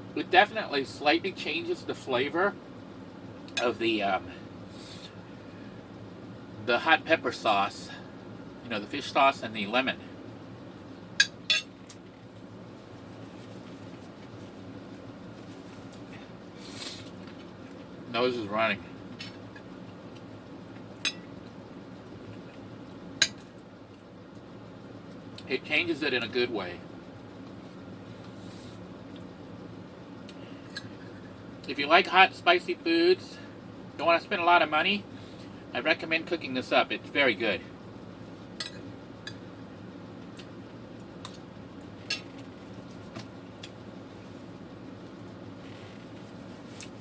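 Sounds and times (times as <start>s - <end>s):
low steady background noise: 0.0s - 47.0s
low steady hum: 0.0s - 47.0s.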